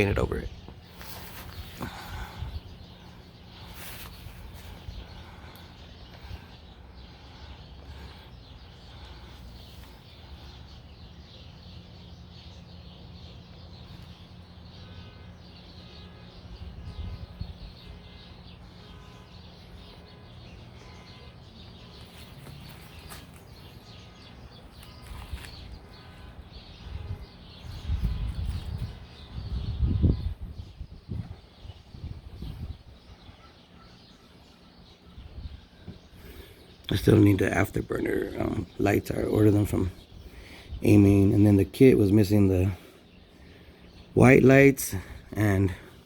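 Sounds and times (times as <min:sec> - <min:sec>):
faint bird chirps: 0:00.0 - 0:46.0.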